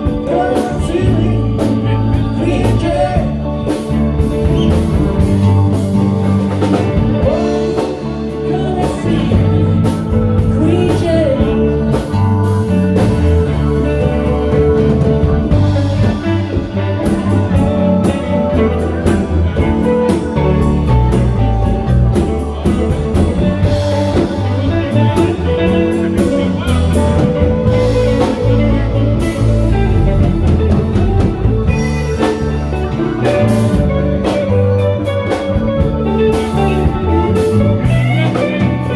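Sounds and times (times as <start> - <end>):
electric guitar: 0.0 - 38.9
live band playing: 0.0 - 38.9.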